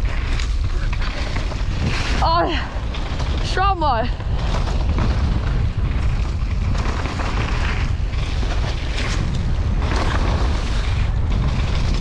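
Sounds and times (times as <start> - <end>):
bike rattling over rough ground: 0.0 - 12.0
wind rumbling on microphone: 0.0 - 12.0.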